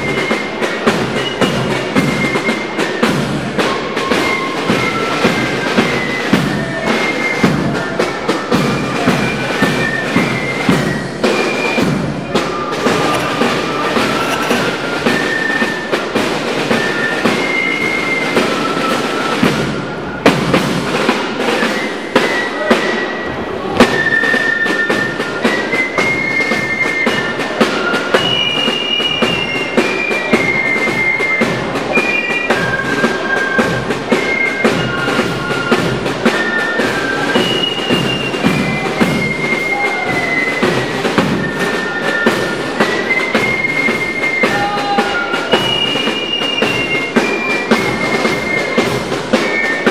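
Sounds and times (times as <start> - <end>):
dense marching drumming: 0.0 - 15.4, 24.3 - 49.9
flute-like melody: 0.0 - 49.9.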